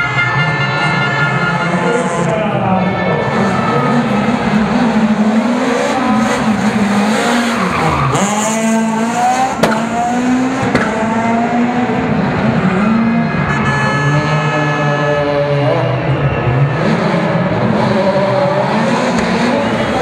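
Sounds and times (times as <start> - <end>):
rally car engine revving hard: 3.2 - 20.0.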